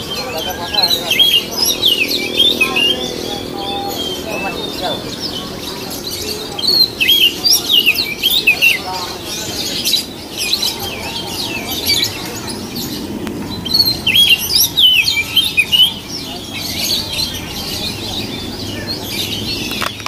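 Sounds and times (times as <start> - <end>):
low background murmur: 0.0 - 20.0.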